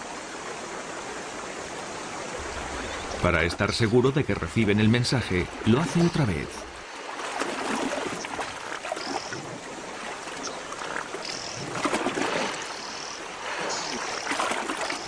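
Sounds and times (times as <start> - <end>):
river water splashing and churning: 0.0 - 15.0.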